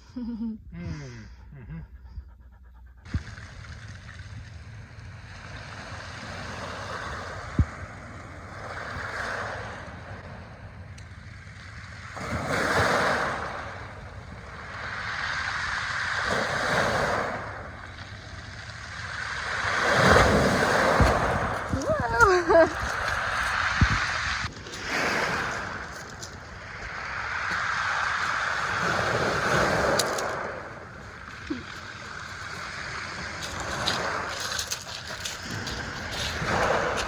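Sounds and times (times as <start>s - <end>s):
ocean waves washing ashore: 3.1s - 37.0s.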